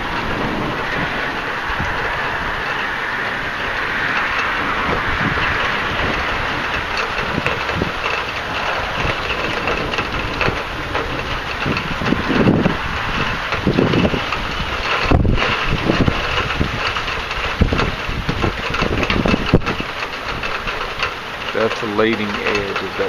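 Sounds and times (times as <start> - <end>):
rain: 0.0 - 23.0
wind: 0.0 - 23.0
wind buffeting microphone: 0.0 - 23.0.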